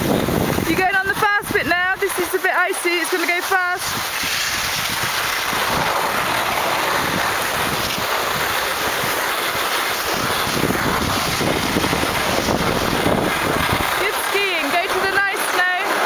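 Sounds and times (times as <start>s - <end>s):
wind buffeting microphone: 0.0s - 2.4s, 3.5s - 16.0s
skis scraping over icy snow: 0.0s - 16.0s.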